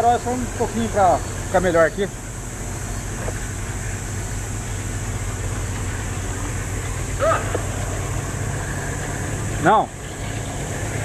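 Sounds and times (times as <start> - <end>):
diesel locomotive engines droning: 0.0 - 11.0.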